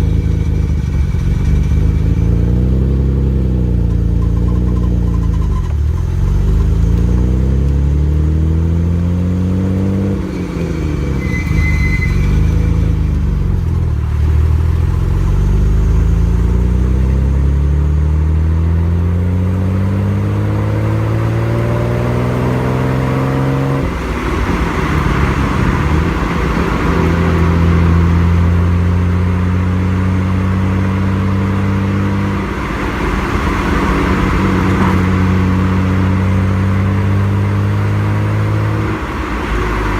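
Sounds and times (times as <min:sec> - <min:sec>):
car exhaust revving through gears: 0:00.0 - 0:39.9.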